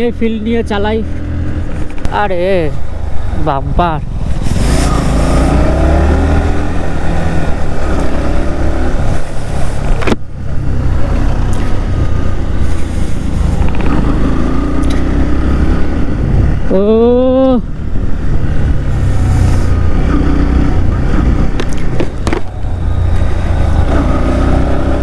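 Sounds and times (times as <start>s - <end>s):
motorcycle engine running: 0.0s - 25.0s
wind on microphone: 2.8s - 25.0s.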